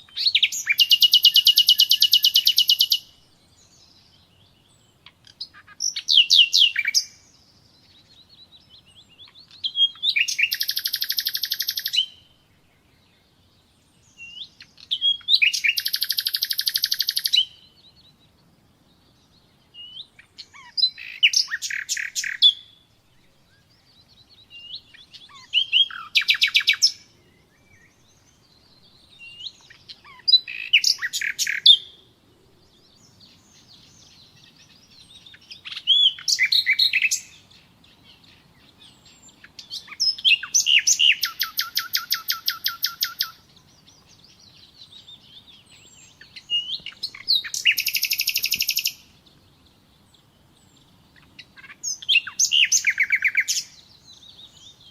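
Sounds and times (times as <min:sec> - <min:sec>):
nightingale singing: 0:00.0 - 0:54.9.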